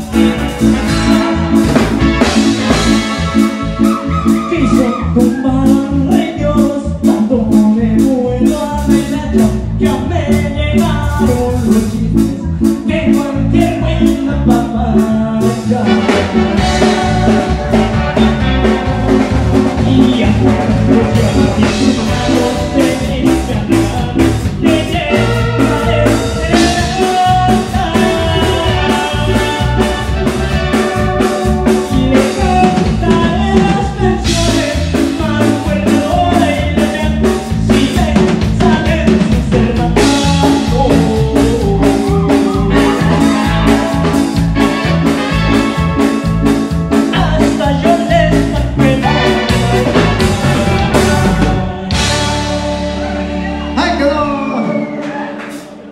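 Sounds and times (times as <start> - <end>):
drum kit playing a steady beat: 0.0 - 55.9
keyboard: 0.0 - 55.9
man singing into a microphone: 3.0 - 44.6, 47.0 - 52.6.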